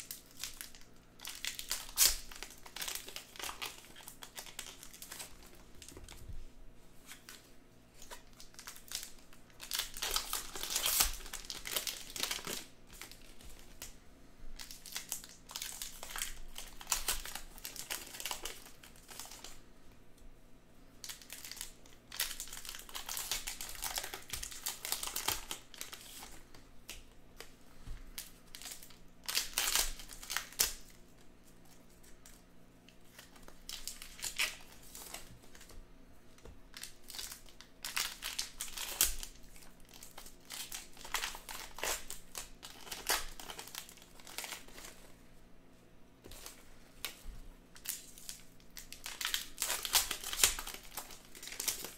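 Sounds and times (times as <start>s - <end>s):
card pack wrappers tearing and crinkling: 0.0s - 6.2s, 8.0s - 14.0s, 14.6s - 19.6s, 21.0s - 27.5s, 28.2s - 31.0s, 33.0s - 35.7s, 36.7s - 45.0s, 47.8s - 51.9s.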